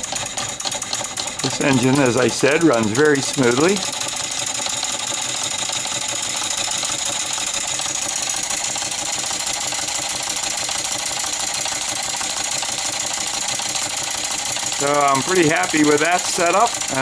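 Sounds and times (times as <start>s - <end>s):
steam engine clattering: 0.0s - 17.0s.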